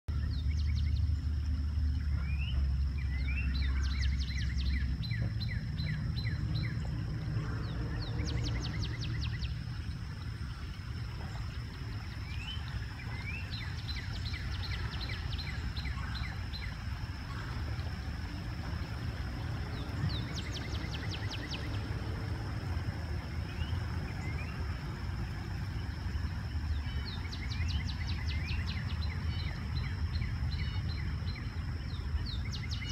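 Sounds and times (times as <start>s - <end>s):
birds calling: 0.1s - 32.9s
low rumble: 0.1s - 32.9s.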